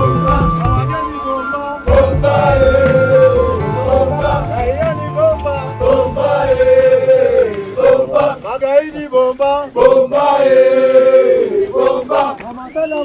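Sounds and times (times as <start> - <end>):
group of voices chanting: 0.0 - 12.6.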